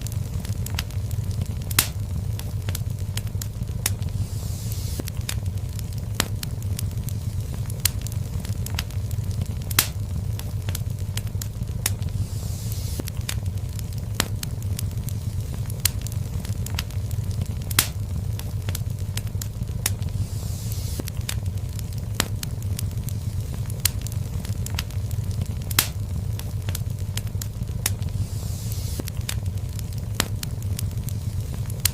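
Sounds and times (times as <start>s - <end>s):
fire crackles and pops: 0.0s - 31.9s
flames rumbling in fireplace: 0.0s - 31.9s.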